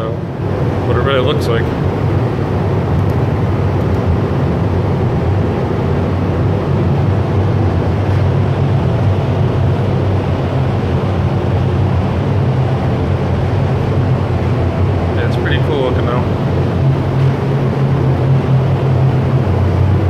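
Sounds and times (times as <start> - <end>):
machine drone with low hum: 0.0 - 20.0.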